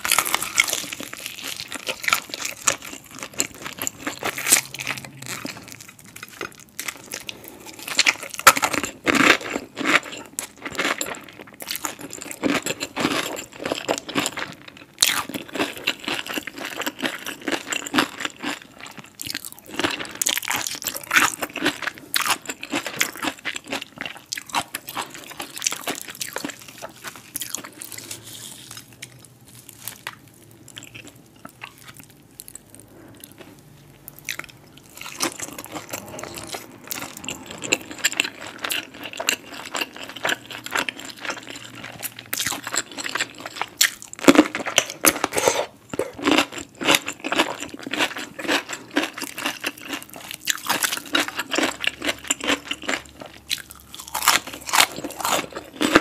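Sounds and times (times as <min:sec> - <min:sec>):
crunching fried chicken: 0:00.0 - 0:56.0.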